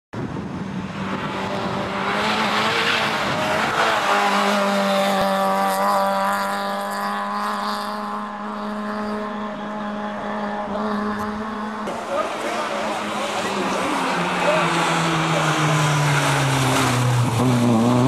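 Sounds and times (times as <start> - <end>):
tyre and road noise: 0.1 - 18.0
rally car engine revving: 0.5 - 18.0.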